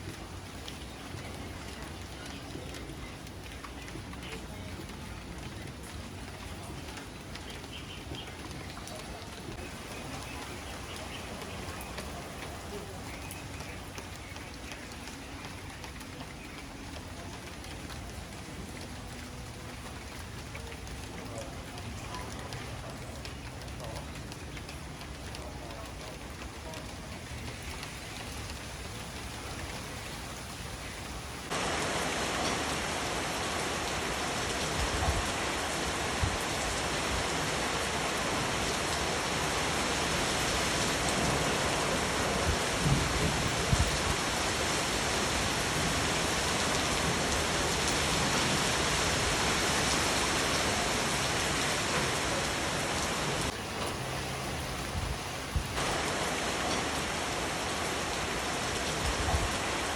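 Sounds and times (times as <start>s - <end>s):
steady rain pouring: 0.0s - 59.9s.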